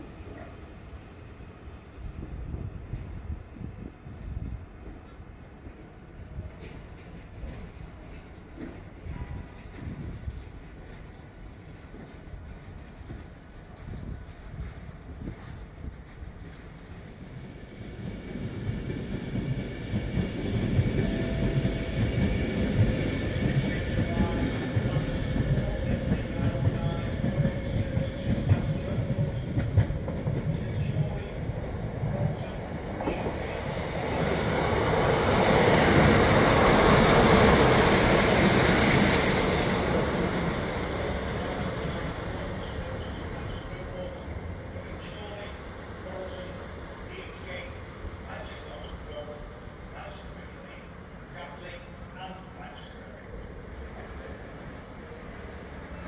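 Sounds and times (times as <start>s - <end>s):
train wheels rumbling: 1.8s - 51.8s.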